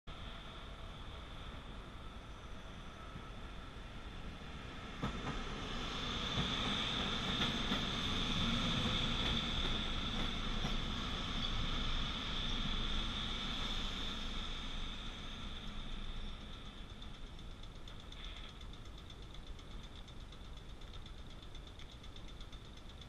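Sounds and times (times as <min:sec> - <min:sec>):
steady high whine: 0:00.1 - 0:23.0
train cars rumbling: 0:00.2 - 0:19.6.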